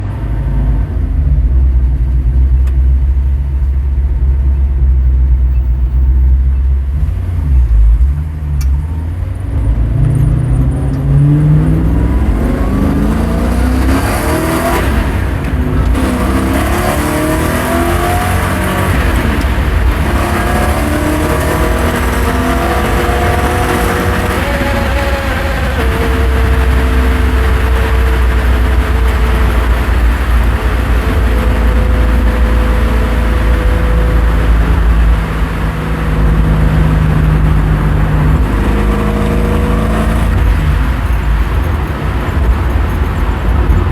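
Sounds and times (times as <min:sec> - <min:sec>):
engine idling and revving: 0:00.0 - 0:43.9.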